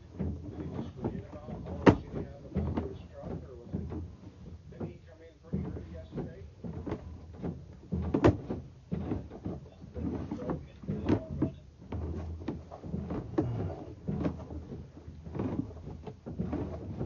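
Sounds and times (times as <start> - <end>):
hollow knocks of cable in pipe: 0.0 - 17.0.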